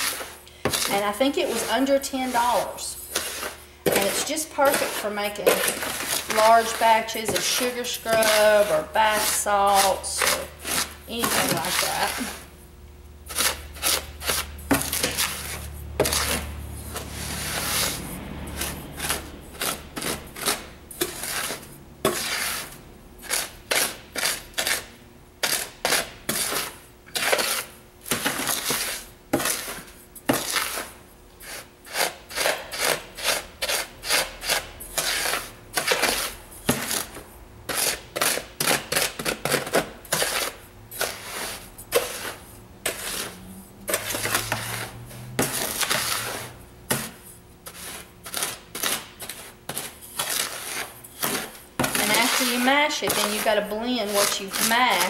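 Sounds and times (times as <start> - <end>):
salts scraping and crunching in pan: 0.0 - 12.5, 13.3 - 37.1, 37.7 - 55.0.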